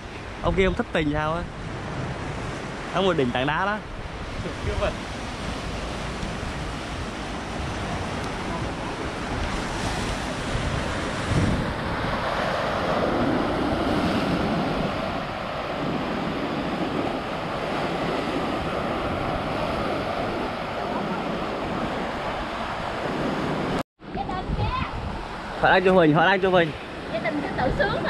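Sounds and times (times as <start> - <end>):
sea surf on rocky shore: 0.0 - 28.0
wind rumbling on microphone: 0.0 - 28.0.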